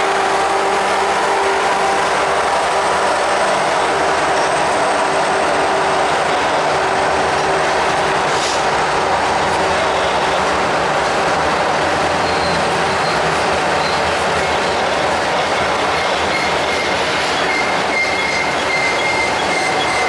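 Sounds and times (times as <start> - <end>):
steel wheels rolling on rails: 0.0 - 20.0.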